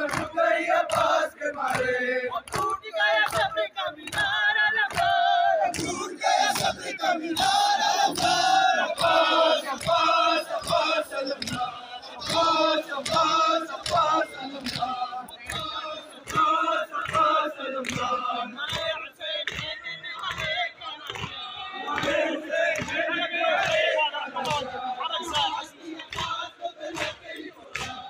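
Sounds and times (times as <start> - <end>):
men chanting in unison: 0.0 - 28.0
hands slapping chests: 0.1 - 3.5, 4.1 - 23.0, 25.3 - 28.0.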